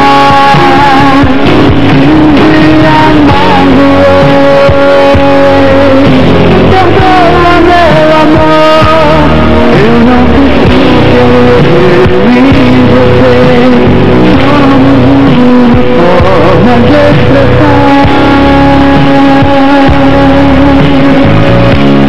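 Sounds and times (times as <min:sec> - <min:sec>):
band playing gospel pop: 0:00.0 - 0:22.0
man singing lead vocals: 0:00.0 - 0:22.0.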